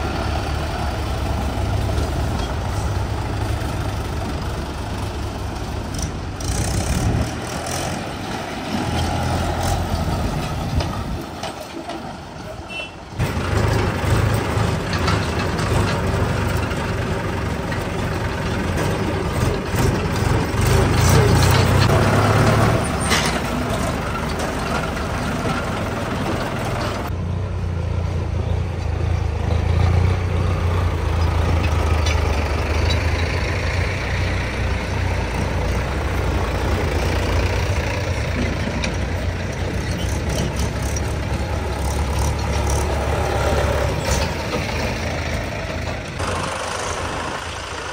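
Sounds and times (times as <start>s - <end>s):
tractor diesel engines running: 0.0s - 47.9s.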